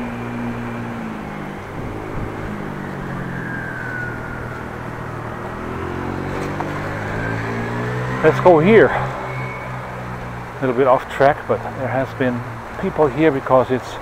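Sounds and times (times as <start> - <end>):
steady rushing noise: 0.0 - 14.0
vehicle engine running: 0.0 - 14.0.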